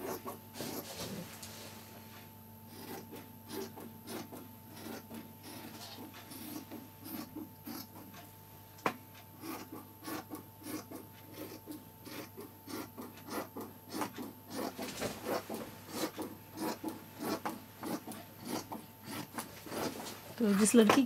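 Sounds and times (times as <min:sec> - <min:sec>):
shears snipping cloth: 0:02.7 - 0:08.2, 0:09.4 - 0:21.0.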